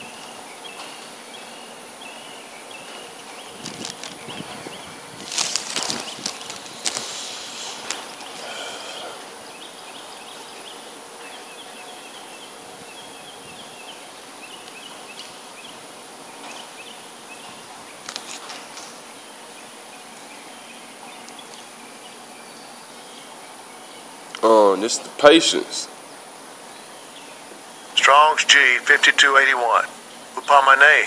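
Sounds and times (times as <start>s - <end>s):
birds calling: 0.0s - 31.0s
outdoor background noise: 0.0s - 31.0s.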